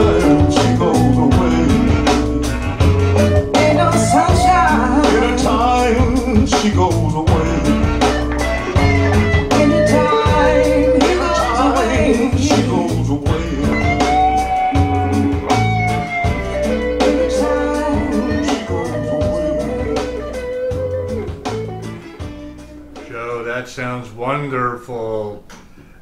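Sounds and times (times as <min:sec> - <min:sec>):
rock song over loudspeakers: 0:00.0 - 0:23.1.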